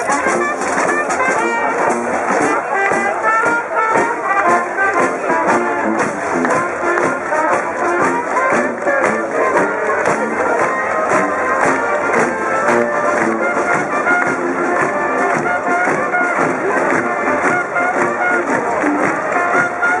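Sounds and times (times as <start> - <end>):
banjo: 0.0 - 20.0
marching band playing: 0.0 - 20.0
trumpets: 0.0 - 20.0.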